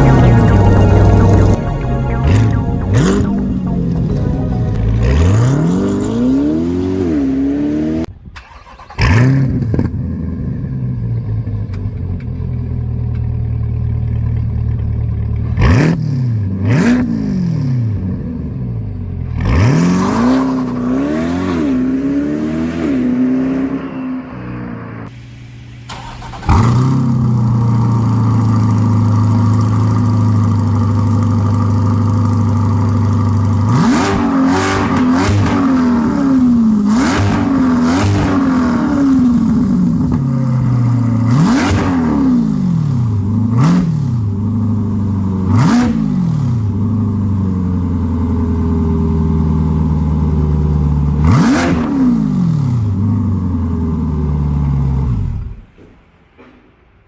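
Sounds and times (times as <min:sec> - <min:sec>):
sports car engine idling and revving: 0:05.1 - 0:08.2, 0:09.0 - 0:25.1, 0:26.5 - 0:55.7.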